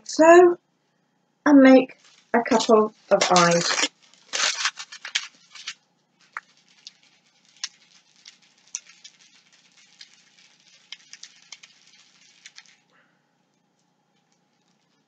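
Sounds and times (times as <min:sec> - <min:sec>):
aluminium foil crinkling: 0:01.9 - 0:15.0.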